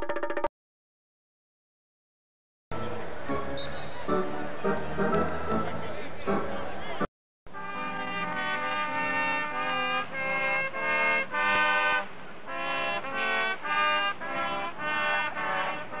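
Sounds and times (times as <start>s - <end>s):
background music melody: 2.8s - 16.0s.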